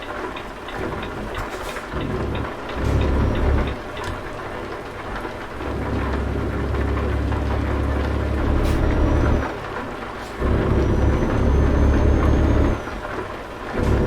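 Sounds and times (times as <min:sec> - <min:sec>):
heavy truck rumbling: 0:00.0 - 0:14.0
steady rain: 0:00.0 - 0:14.0.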